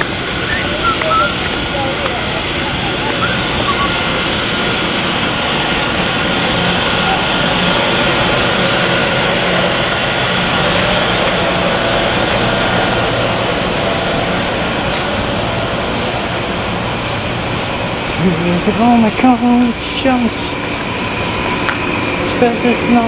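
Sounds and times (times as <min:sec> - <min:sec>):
air conditioner whirring hum: 0:00.0 - 0:23.0.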